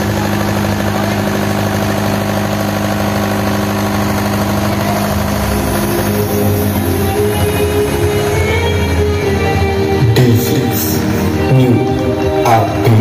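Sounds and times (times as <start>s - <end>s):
generator engine idling: 0.0s - 13.0s.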